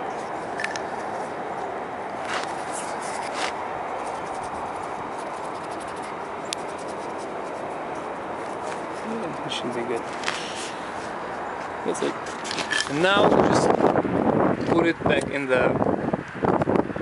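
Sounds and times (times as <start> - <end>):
steady background rush: 0.0 - 16.5.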